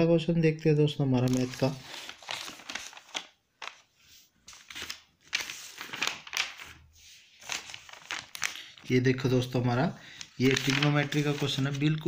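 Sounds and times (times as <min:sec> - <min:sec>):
paper pages rustling: 0:01.2 - 0:12.0.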